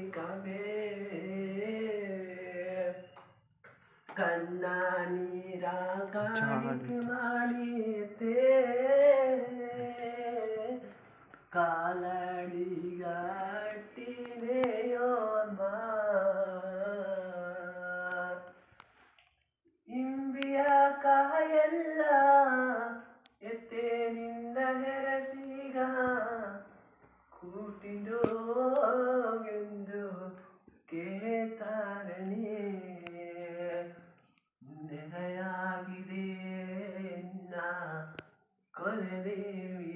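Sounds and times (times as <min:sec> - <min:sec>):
man singing unaccompanied: 0:00.0 - 0:03.2, 0:04.2 - 0:18.6, 0:19.9 - 0:26.7, 0:27.4 - 0:38.2, 0:38.8 - 0:39.9.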